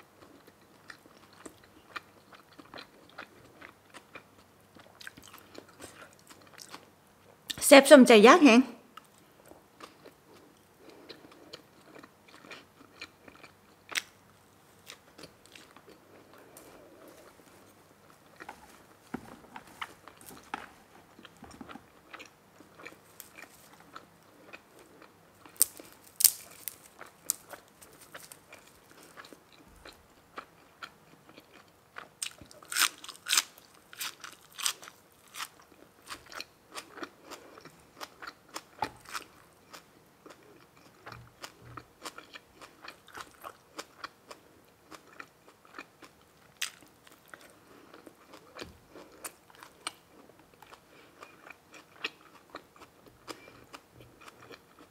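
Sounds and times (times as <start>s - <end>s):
person chewing with crunches: 0.0s - 7.5s, 8.9s - 54.9s.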